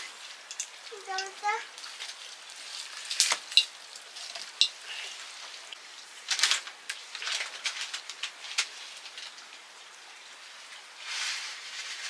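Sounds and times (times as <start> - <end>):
oil sizzling: 0.0 - 12.0
wood fire crackling: 0.0 - 12.0.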